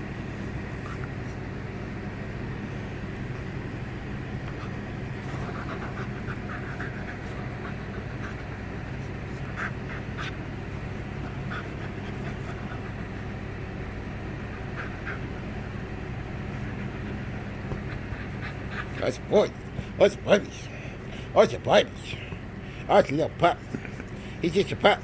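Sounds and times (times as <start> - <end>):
steady low hum: 0.0 - 25.0
dog panting: 0.3 - 25.0.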